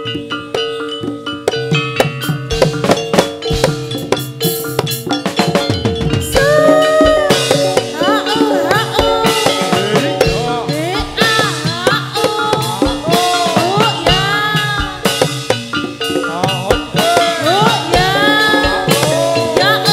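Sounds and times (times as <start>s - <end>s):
drum strokes: 0.0s - 19.9s.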